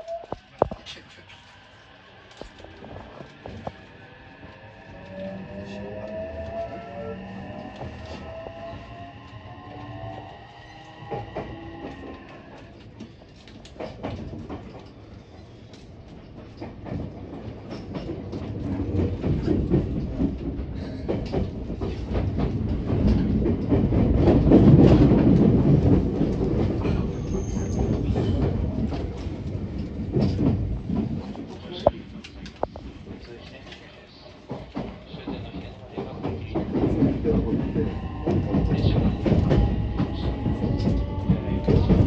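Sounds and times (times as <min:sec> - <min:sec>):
train running noise inside car: 0:00.0 - 0:42.0.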